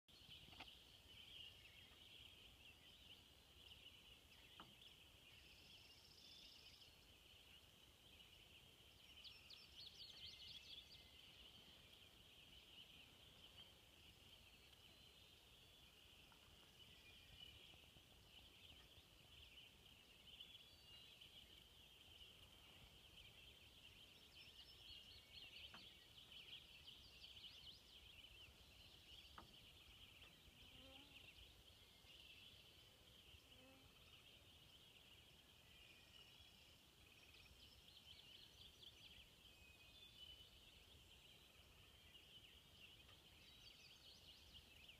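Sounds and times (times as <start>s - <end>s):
bird calls: 0.2s - 44.9s.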